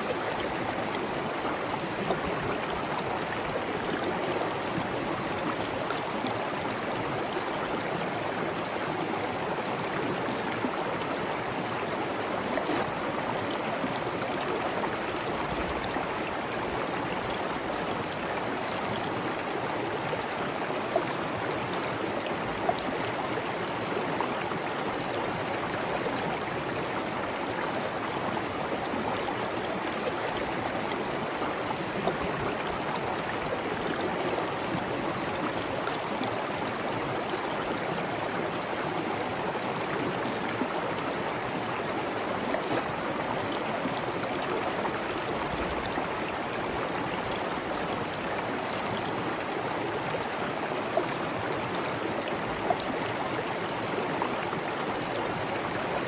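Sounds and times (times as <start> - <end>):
water babbling over rocks: 0.0 - 56.0.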